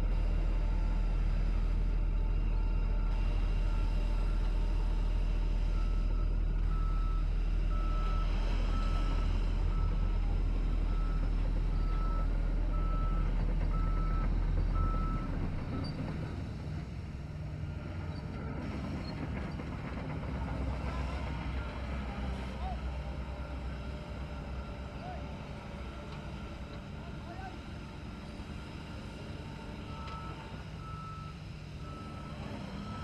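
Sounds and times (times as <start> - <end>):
diesel machine engine running: 0.0 - 33.0.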